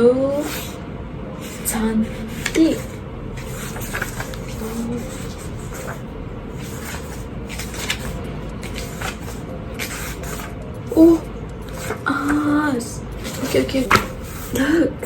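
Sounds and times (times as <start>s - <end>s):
paper pages rustling: 0.3s - 0.8s, 1.4s - 14.8s.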